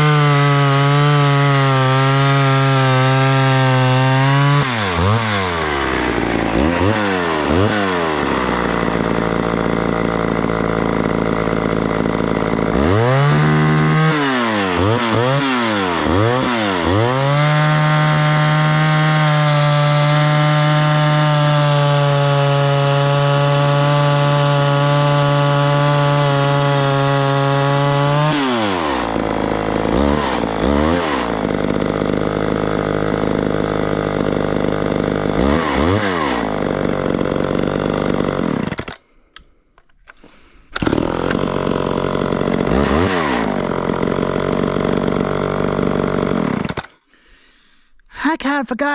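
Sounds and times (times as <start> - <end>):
chainsaw revving and cutting wood: 0.0 - 39.5, 40.1 - 47.9.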